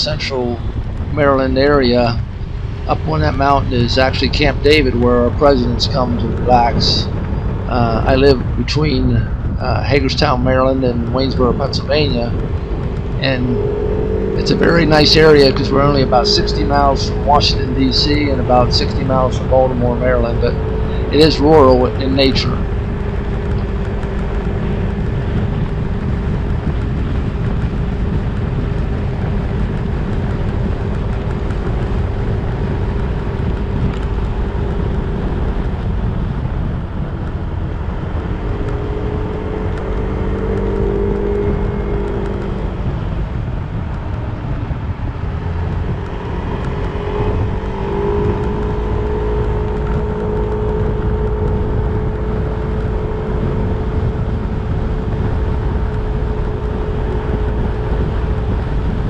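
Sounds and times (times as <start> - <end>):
scooter engine drone: 0.0 - 59.0
wind rumble on microphone: 0.0 - 59.0.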